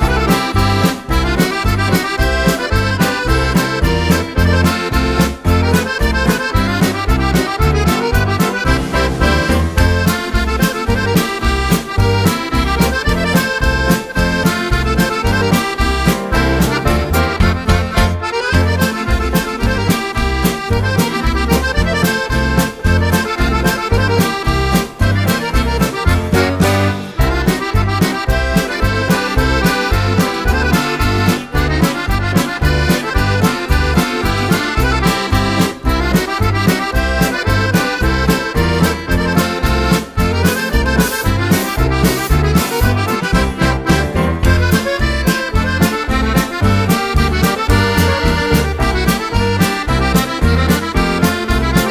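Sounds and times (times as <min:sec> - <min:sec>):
accordion polka: 0:00.0 - 0:51.9.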